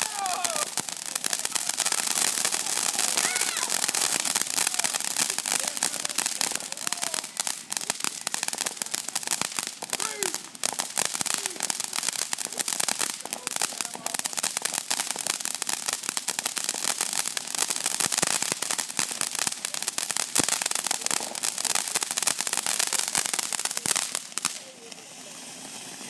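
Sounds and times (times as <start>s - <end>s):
firework fountain hissing and crackling: 0.0s - 26.0s.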